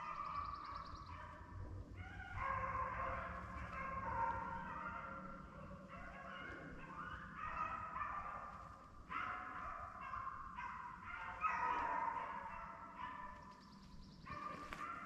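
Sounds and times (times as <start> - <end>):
dogs baying: 0.0 - 15.0.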